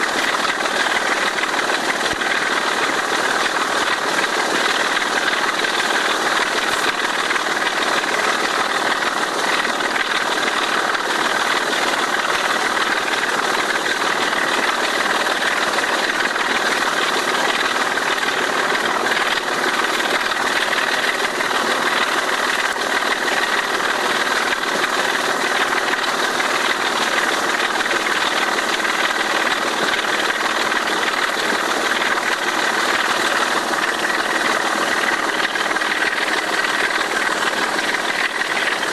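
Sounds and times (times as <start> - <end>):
diesel locomotive engine thrashing: 0.0 - 38.9.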